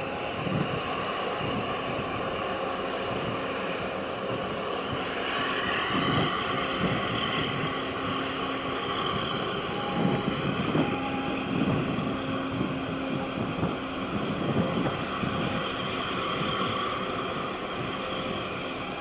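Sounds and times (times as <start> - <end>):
marine engines rumbling: 0.0 - 19.0
wind noise on microphone: 0.0 - 19.0.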